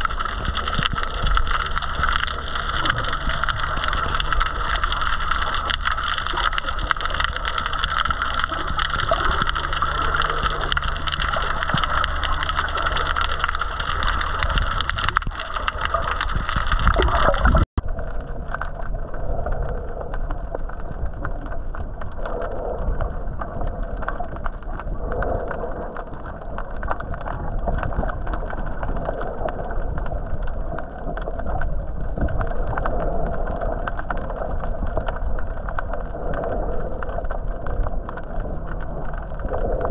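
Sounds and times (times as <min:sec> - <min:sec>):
low steady hum: 0:00.0 - 0:39.9
underwater rush of water: 0:00.0 - 0:39.9.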